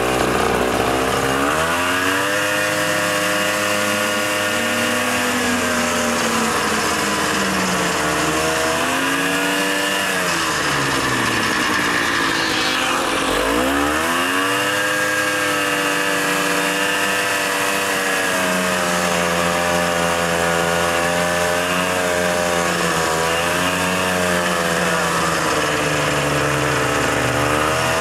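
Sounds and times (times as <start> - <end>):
snowmobile engine revving: 0.0 - 28.0.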